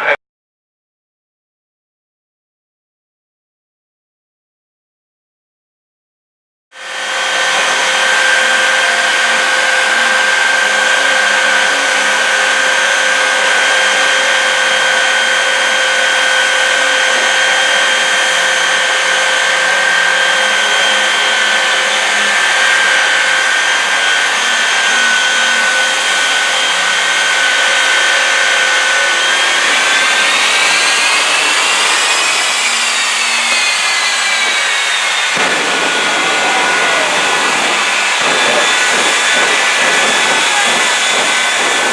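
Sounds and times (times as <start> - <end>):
jet engines roaring with whine: 6.8 - 41.9.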